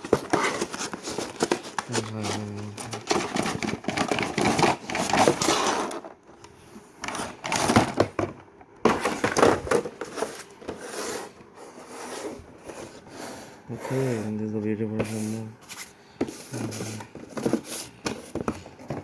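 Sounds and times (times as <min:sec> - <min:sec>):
packaging rubbing and scraping: 0:00.0 - 0:06.1, 0:07.0 - 0:08.1, 0:08.9 - 0:14.4, 0:15.0 - 0:19.0.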